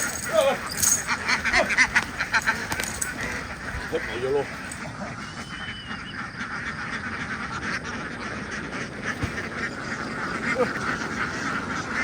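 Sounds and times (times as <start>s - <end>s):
flock of ducks quacking: 0.0s - 12.0s.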